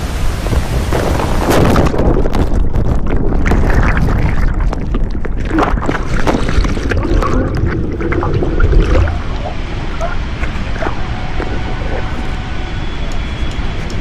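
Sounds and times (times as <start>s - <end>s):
waterfall roaring: 0.0s - 4.2s, 5.6s - 14.0s
wind buffeting microphone: 0.0s - 14.0s.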